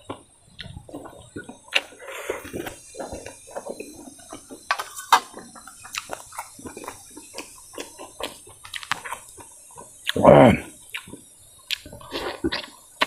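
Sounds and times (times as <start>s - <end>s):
person chewing wetly: 0.0s - 12.9s
mouth smacking and sucking clicks: 0.1s - 10.3s, 10.9s - 12.8s.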